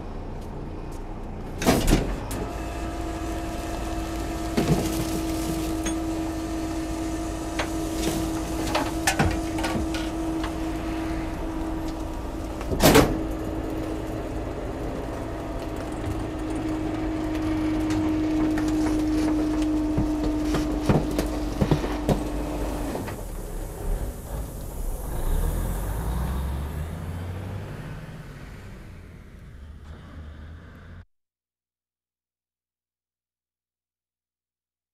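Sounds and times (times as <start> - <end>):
garbage truck engine: 0.0 - 31.0.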